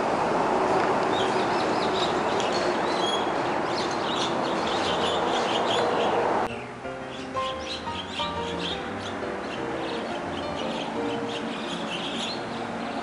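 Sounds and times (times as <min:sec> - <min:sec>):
small birds chirping: 0:01.1 - 0:13.0.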